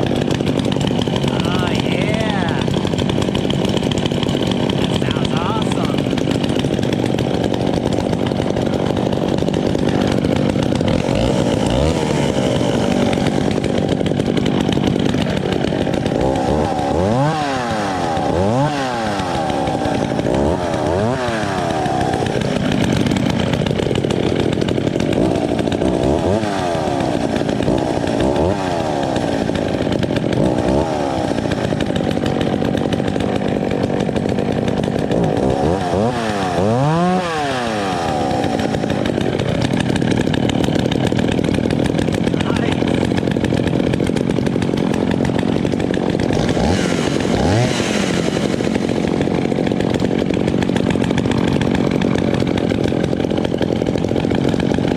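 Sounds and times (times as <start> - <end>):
chainsaw running at high revs: 0.0 - 54.9.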